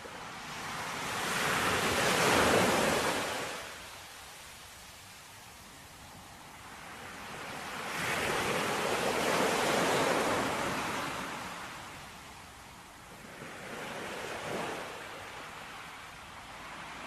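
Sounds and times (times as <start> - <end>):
ocean waves on shore: 0.0 - 17.0.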